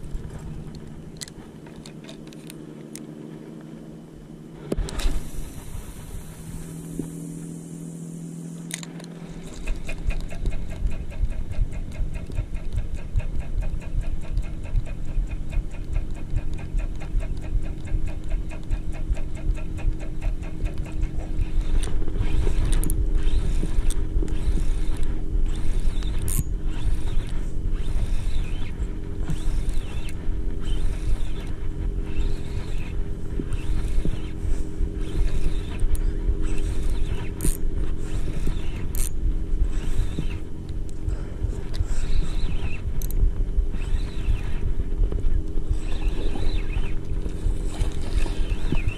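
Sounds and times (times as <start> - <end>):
fishing reel ticking: 0.0 - 3.1, 4.7 - 48.9.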